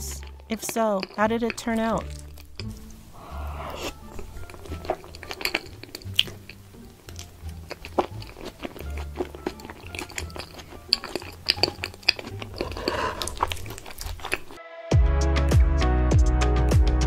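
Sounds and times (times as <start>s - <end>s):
wet chewing and mouth smacks: 0.0s - 14.6s
background music: 0.0s - 17.0s.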